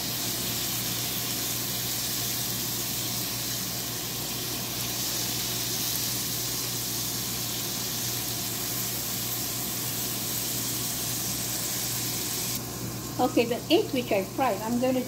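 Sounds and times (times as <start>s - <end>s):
eggs sizzling on a griddle: 0.0s - 15.0s.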